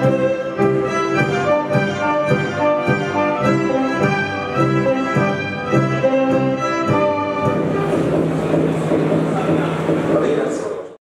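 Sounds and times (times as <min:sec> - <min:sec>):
violins playing folk tune: 0:00.0 - 0:10.7
low strings keeping a beat: 0:00.0 - 0:10.8.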